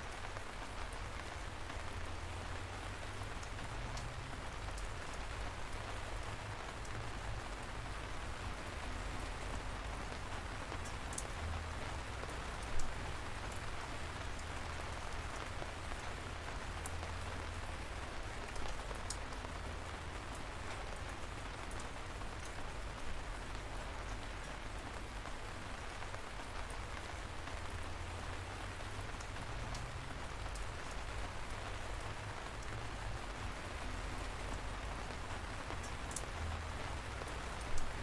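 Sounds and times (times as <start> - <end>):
light rain falling: 0.0 - 38.0.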